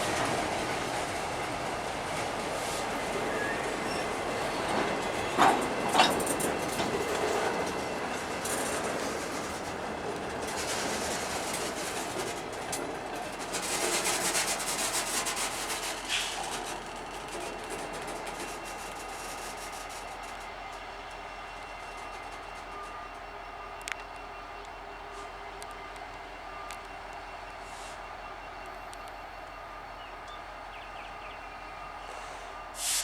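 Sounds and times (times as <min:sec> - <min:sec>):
freight cars rolling on rails: 0:00.0 - 0:29.1.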